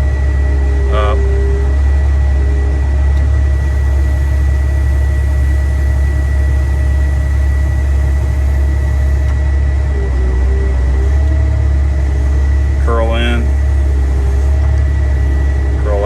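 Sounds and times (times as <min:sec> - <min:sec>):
diesel engine running: 0:00.0 - 0:16.0
steady high whine: 0:00.0 - 0:16.0.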